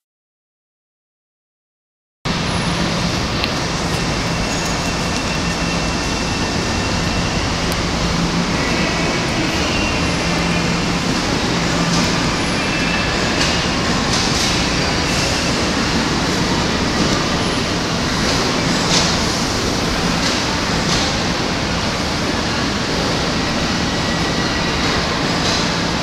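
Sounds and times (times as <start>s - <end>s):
train noise: 2.3s - 26.0s.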